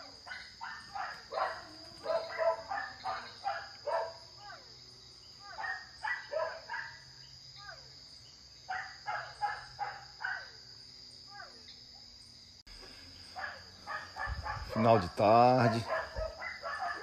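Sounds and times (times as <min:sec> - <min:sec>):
frogs calling with bark-like calls: 0:00.0 - 0:17.0
high insect trill: 0:00.0 - 0:17.0.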